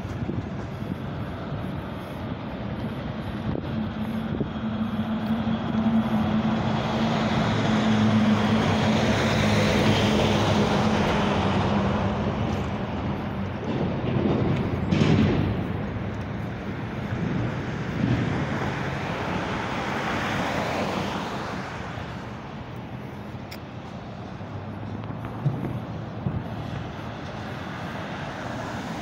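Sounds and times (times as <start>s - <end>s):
street traffic: 0.0s - 29.0s
truck engine drone: 0.0s - 29.0s.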